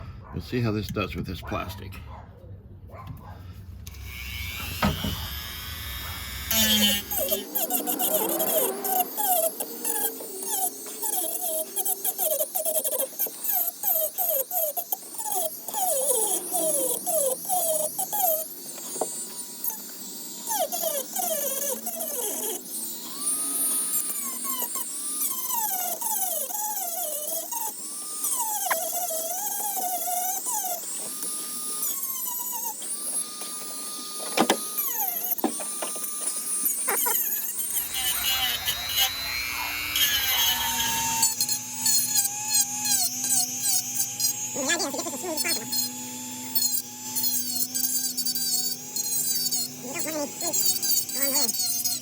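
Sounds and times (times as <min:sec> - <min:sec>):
rotary tool grinding plastic: 0:03.8 - 0:52.0.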